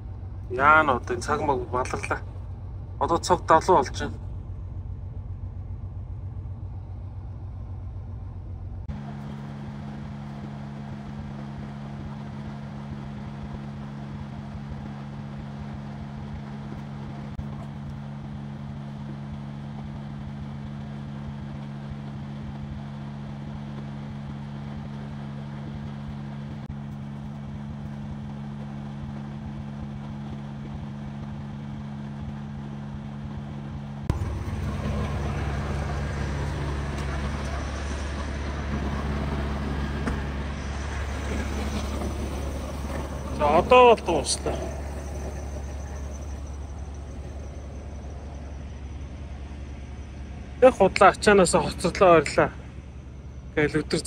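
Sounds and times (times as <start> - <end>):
road noise: 0.0 - 54.0
truck engine droning: 0.0 - 54.0.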